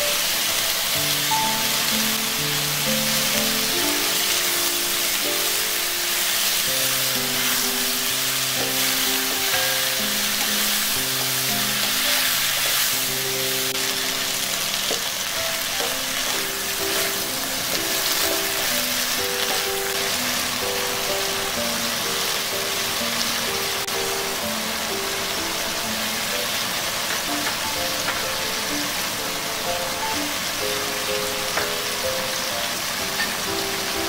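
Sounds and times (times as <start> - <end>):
background music: 0.0 - 34.0
vegetables sizzling in oil: 0.0 - 34.0.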